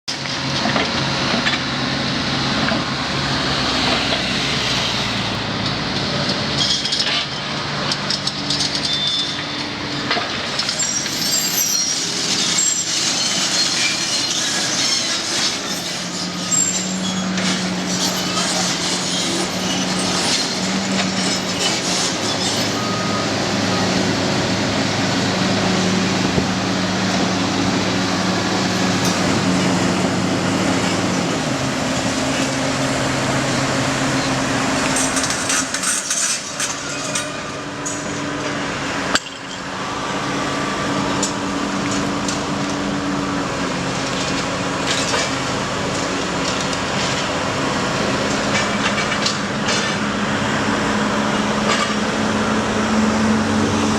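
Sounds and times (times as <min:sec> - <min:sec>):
diesel engine under load: 0:00.1 - 0:53.9.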